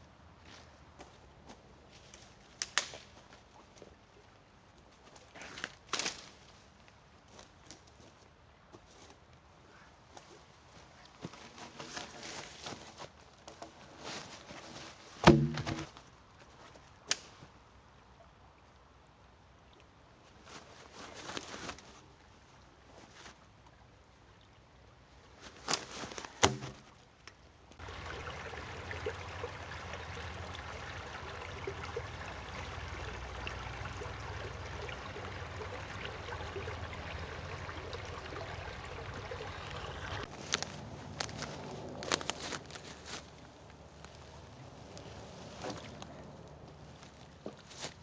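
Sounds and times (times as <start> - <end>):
forest stream running: 0.0 - 48.0.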